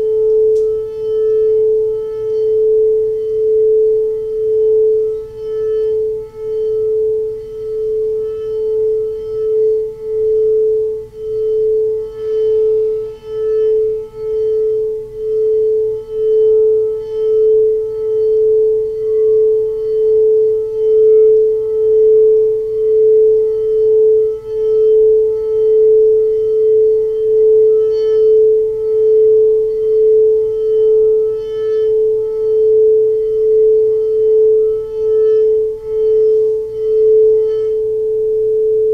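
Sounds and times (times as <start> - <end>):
singing bowl pulsing tone: 0.0 - 38.9.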